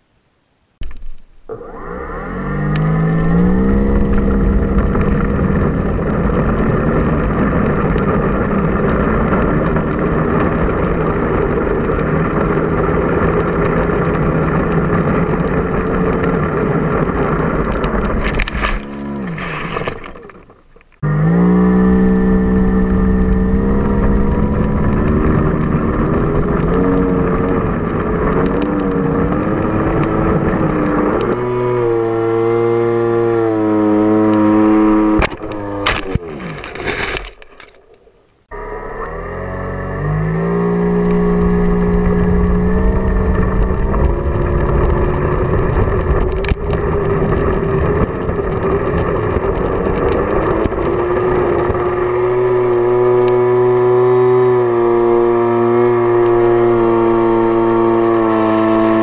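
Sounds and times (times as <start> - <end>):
electric motor and propeller whine: 1.5 - 37.9, 38.5 - 59.0.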